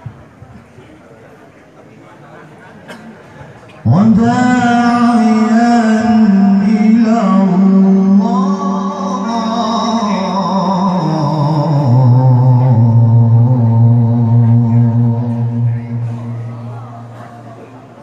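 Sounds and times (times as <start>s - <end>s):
man reciting melodically over loudspeakers: 3.3s - 18.0s.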